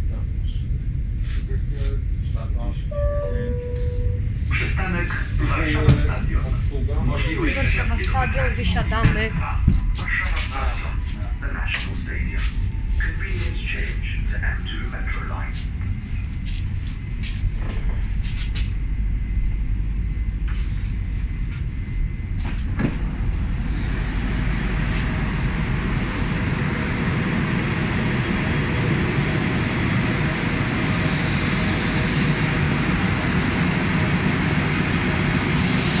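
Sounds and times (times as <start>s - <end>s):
electric train running: 1.8s - 36.0s.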